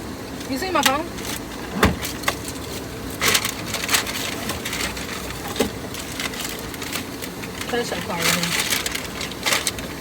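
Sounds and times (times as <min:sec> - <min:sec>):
rustling and crackling: 0:01.2 - 0:10.0.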